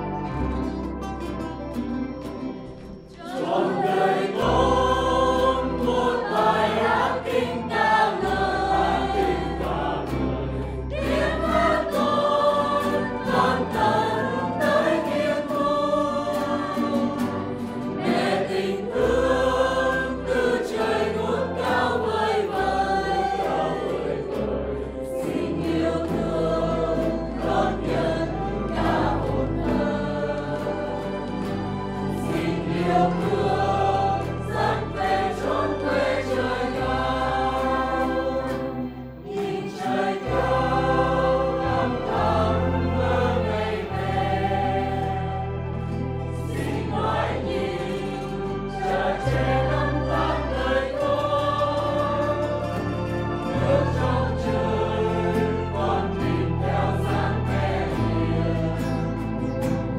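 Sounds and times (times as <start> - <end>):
acoustic guitars: 0.0 - 59.9
choir singing a hymn: 2.6 - 59.9.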